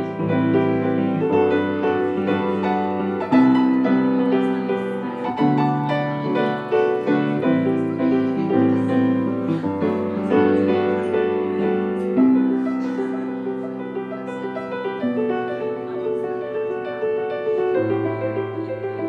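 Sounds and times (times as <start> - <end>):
grand piano chords and melody: 0.0 - 19.0.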